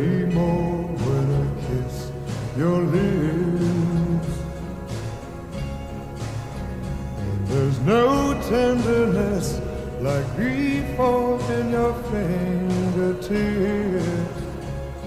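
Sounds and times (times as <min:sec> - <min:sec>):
man singing a slow ballad: 0:00.0 - 0:05.6, 0:07.0 - 0:15.0.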